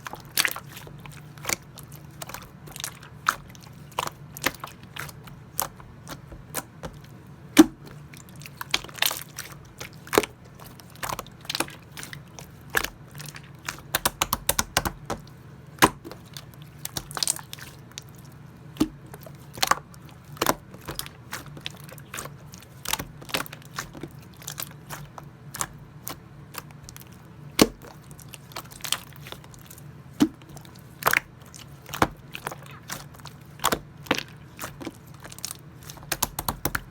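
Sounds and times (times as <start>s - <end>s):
slime squished by hand: 0.0s - 36.9s.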